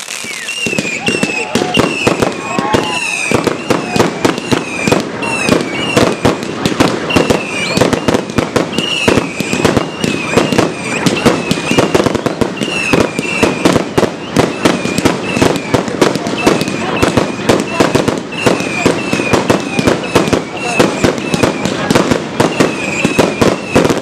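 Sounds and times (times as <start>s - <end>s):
fireworks bangs and crackles: 0.0s - 24.0s
whistling firework shots: 0.0s - 24.0s.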